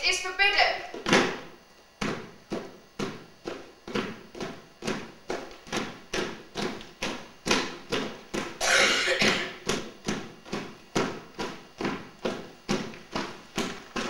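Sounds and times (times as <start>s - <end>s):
feet stamping on wooden stage: 0.8s - 8.6s, 9.2s - 14.0s.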